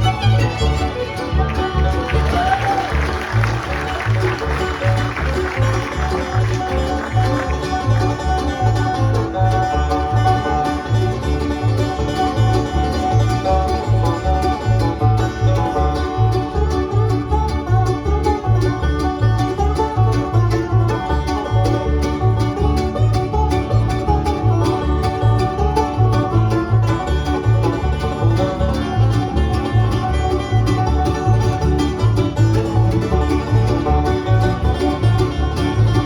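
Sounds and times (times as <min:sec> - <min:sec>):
alternating bass line: 0:00.0 - 0:36.0
banjo picking: 0:00.0 - 0:36.0
guitar: 0:00.0 - 0:36.0.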